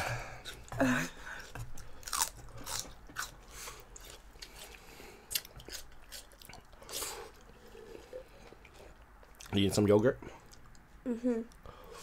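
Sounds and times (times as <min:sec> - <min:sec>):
person chewing noodles: 0:00.0 - 0:09.6, 0:10.4 - 0:10.9.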